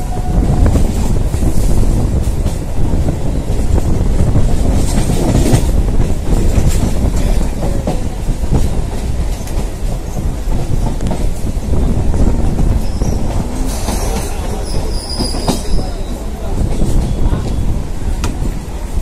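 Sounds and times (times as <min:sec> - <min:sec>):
train rumbling at speed: 0:00.0 - 0:19.0.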